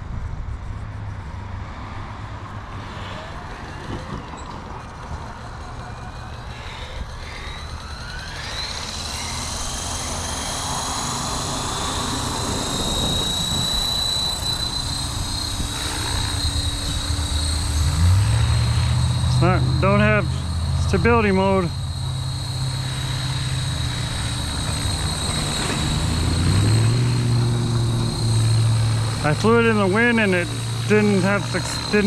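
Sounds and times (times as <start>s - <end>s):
model helicopter whine: 0.0s - 32.0s.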